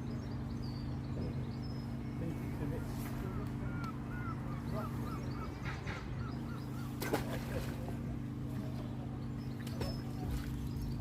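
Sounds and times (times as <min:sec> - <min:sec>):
birds chirping faintly: 0:00.0 - 0:11.0
low mechanical hum: 0:00.0 - 0:11.0.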